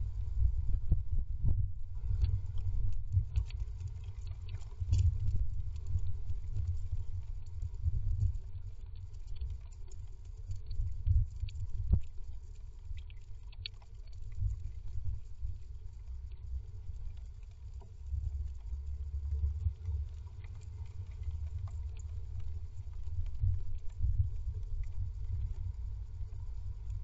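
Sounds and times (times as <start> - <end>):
small clicks and scratches: 2.0 - 27.0.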